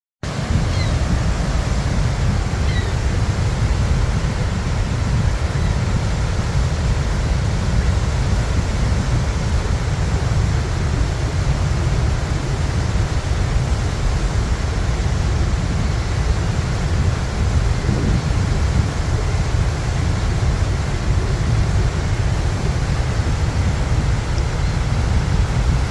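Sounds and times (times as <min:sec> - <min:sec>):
waterfall rushing: 0:00.2 - 0:25.9.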